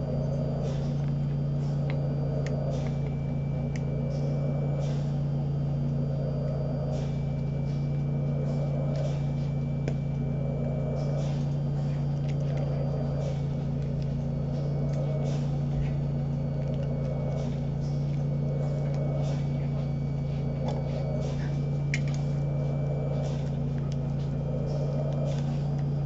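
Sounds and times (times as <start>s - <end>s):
ventilator hum and air rush: 0.0s - 26.0s.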